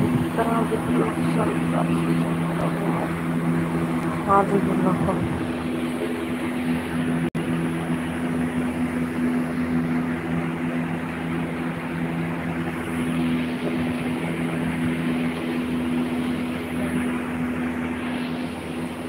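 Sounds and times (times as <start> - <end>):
constant rushing noise: 0.0 - 19.0
steady machine hum: 0.0 - 19.0.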